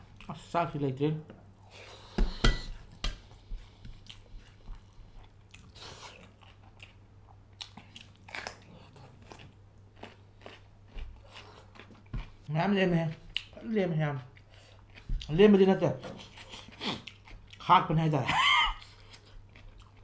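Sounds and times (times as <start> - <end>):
man chewing food: 0.0 - 0.6, 1.2 - 20.0.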